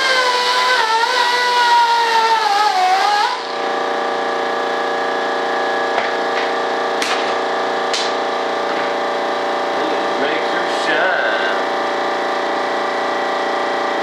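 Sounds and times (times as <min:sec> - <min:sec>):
rotary tool whining: 0:00.0 - 0:14.0
steady hum: 0:00.0 - 0:14.0.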